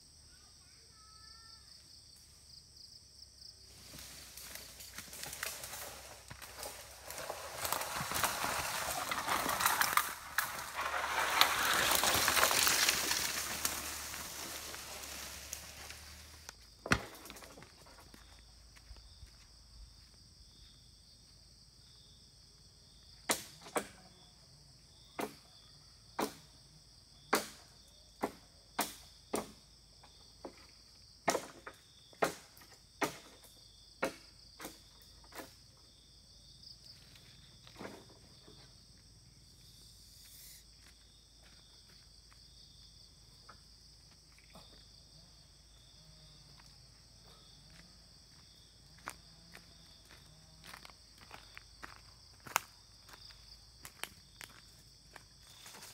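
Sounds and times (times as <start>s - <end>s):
forest insects droning: 0.0s - 55.9s.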